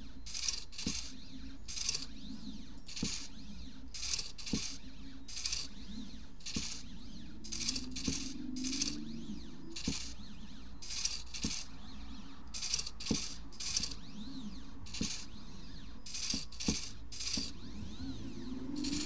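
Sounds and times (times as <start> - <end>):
low hum: 0.0 - 19.0
plotter motors buzzing: 0.0 - 19.0.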